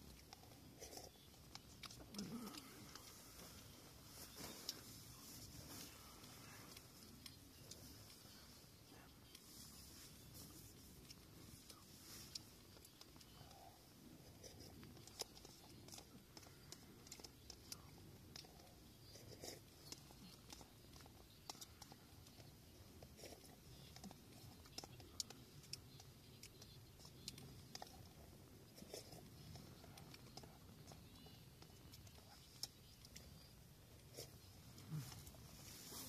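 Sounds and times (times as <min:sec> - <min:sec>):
handling and mouth noises: 0:00.0 - 0:36.0.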